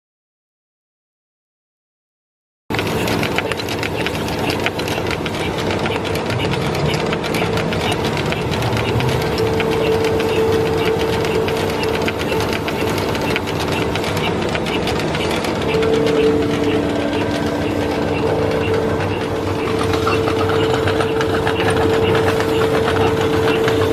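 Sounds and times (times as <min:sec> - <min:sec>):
fast machine ticking: 0:02.7 - 0:23.9
low machine tone: 0:02.7 - 0:23.9
vacuum filler machine hum: 0:02.7 - 0:23.9.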